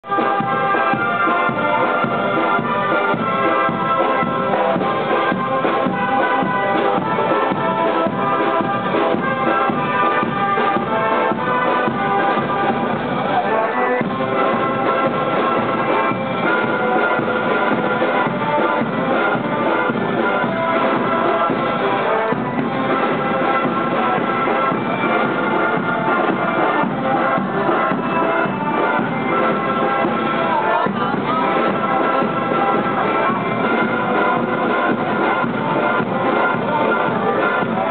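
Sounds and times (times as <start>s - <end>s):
brass band playing a march: 0.0s - 37.9s.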